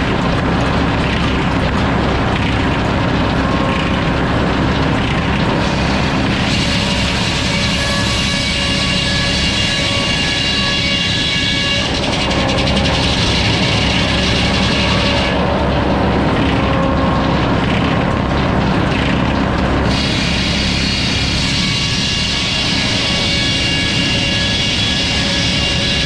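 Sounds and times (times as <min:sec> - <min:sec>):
sawmill engine running: 0:00.0 - 0:26.0
sawmill saw cutting log: 0:00.0 - 0:26.0.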